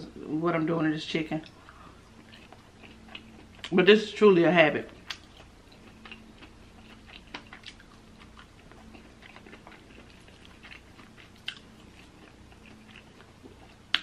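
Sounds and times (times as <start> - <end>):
quiet chewing: 1.4 - 3.8, 4.8 - 14.0.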